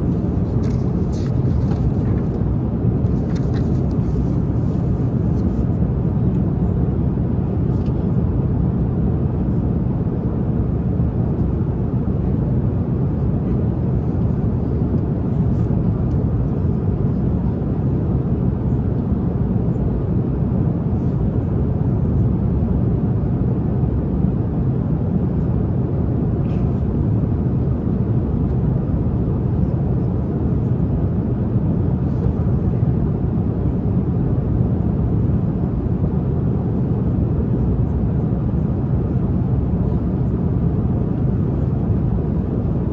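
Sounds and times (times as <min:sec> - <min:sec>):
airliner cabin drone: 0:00.0 - 0:42.9.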